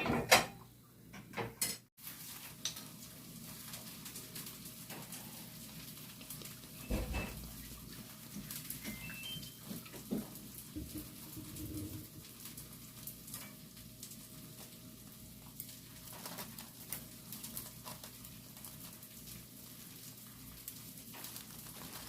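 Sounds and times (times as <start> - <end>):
small crackles and pops: 2.0 - 6.9, 7.5 - 22.0
batter sizzling in oil: 2.0 - 22.0.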